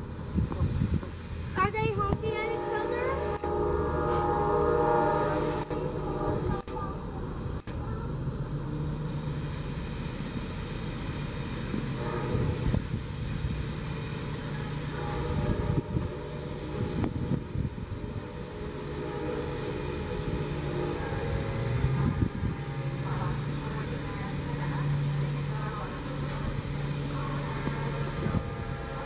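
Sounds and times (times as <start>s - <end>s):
diesel train drone: 0.0s - 29.0s
rail and wheel noise: 0.0s - 29.0s.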